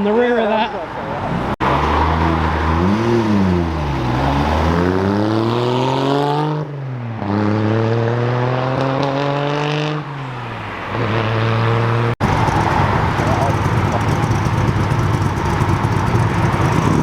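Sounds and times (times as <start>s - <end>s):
car engine accelerating hard: 1.2s - 17.0s.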